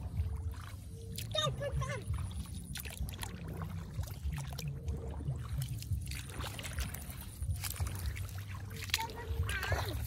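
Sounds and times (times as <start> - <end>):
low rumble: 0.0 - 10.0
shallow water sloshing and trickling: 0.0 - 10.0.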